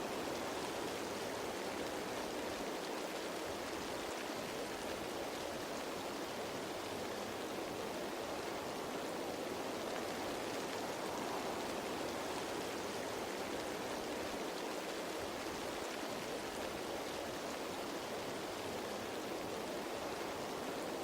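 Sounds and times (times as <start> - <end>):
rain falling on leaves: 0.0 - 21.0.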